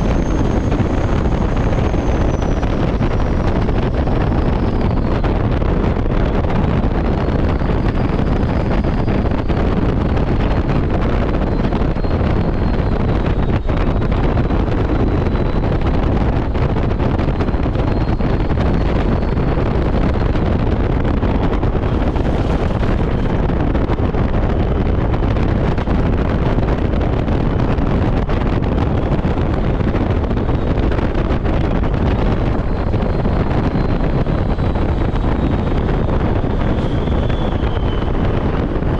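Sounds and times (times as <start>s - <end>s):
truck road and wind noise: 0.0s - 38.9s
wind buffeting microphone: 0.0s - 38.9s.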